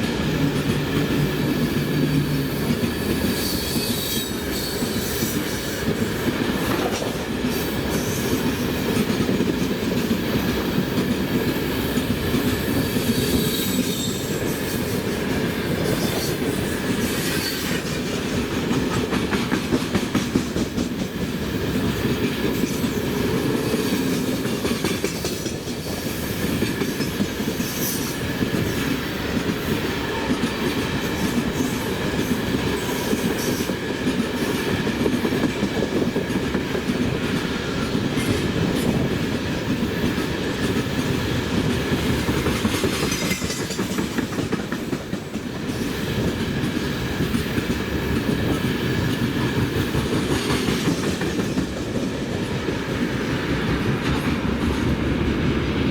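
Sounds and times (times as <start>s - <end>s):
train wheels clattering over rail joints: 0.0s - 55.2s.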